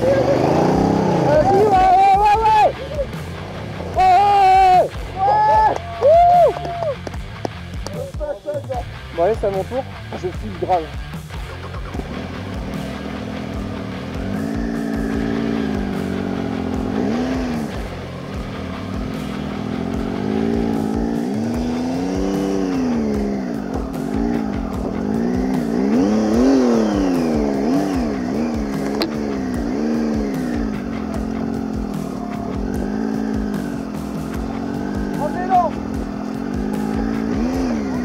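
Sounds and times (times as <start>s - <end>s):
motorcycle engine revving: 0.0s - 5.8s, 6.9s - 38.0s.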